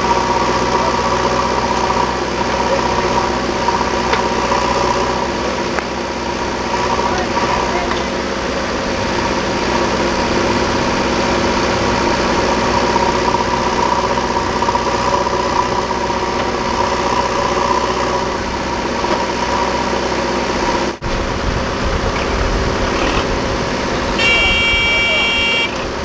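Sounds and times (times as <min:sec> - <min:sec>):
diesel engines running: 0:00.0 - 0:26.0.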